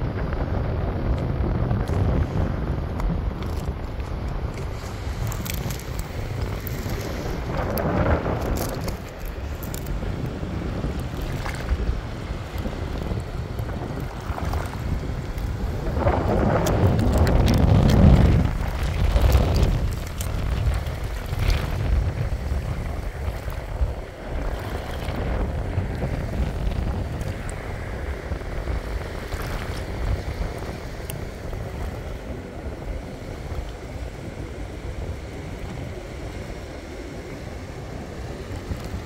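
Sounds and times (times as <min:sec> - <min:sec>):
wind buffeting microphone: 0:00.0 - 0:39.0
small waves washing on rocks: 0:01.7 - 0:39.0.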